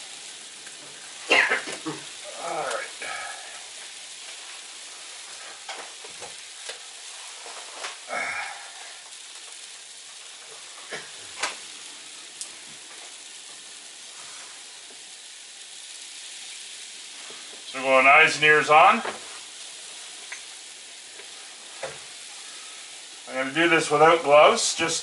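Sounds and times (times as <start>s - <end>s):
freezing rain hitting roof: 0.0s - 25.0s.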